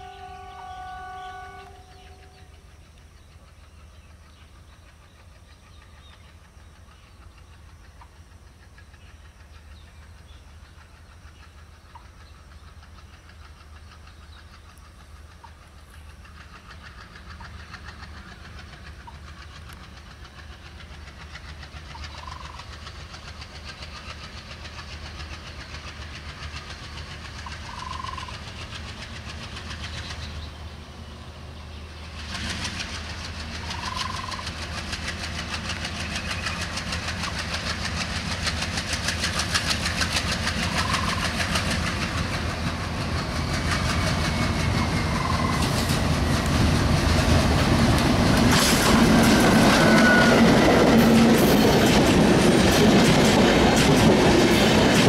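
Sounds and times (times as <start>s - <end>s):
diesel locomotive engine throbbing: 0.0s - 55.0s
train rattling: 0.0s - 55.0s.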